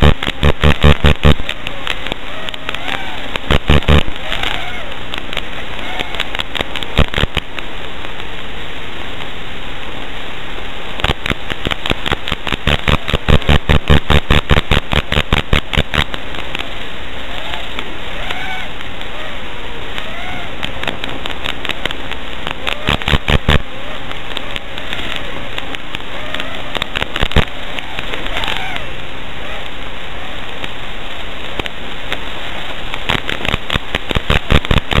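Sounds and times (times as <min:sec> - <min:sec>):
loud crackling clicks: 0:00.0 - 0:35.0
static hiss: 0:00.0 - 0:35.0.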